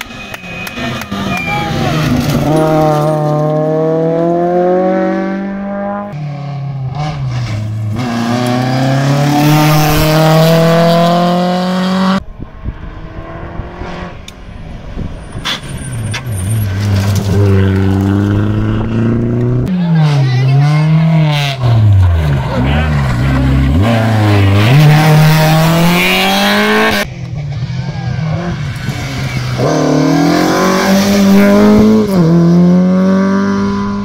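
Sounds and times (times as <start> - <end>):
rally car engines accelerating: 0.0 - 15.0, 15.6 - 34.0
car engine revving: 0.0 - 34.0.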